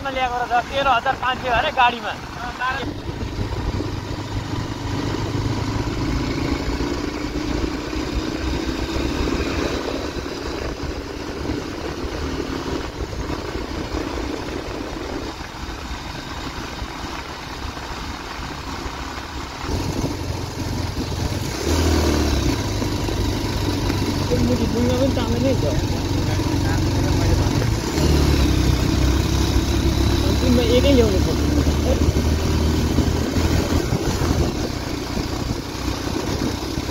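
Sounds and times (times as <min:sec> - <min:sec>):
motorcycle engine running: 0:00.0 - 0:36.9
wind and road noise: 0:00.0 - 0:36.9.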